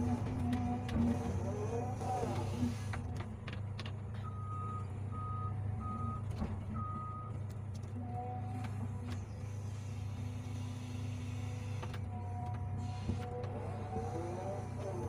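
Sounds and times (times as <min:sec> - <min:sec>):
diesel engine running: 0:00.0 - 0:15.0
hydraulics whining: 0:00.0 - 0:15.0.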